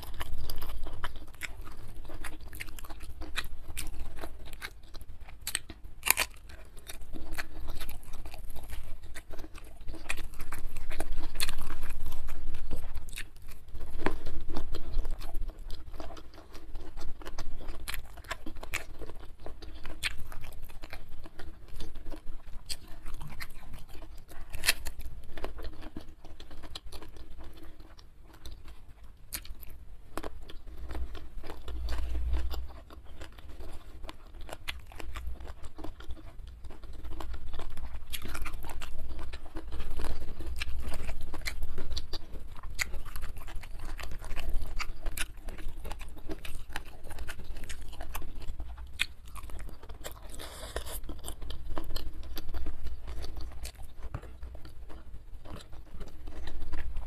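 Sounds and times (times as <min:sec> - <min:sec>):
chewing and crunching vegetables: 0:00.0 - 0:57.0.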